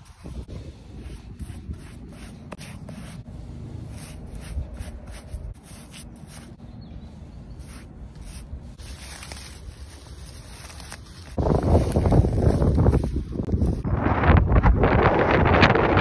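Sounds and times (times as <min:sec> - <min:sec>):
paintbrush brushing on wood: 0:00.0 - 0:06.6, 0:07.2 - 0:13.8.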